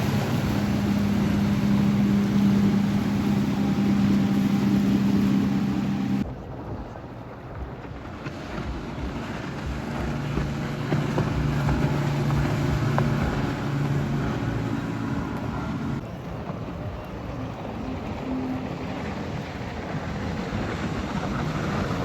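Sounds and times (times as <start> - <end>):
motorboat engine droning: 0.0 - 22.0
wind noise on microphone: 0.0 - 22.0.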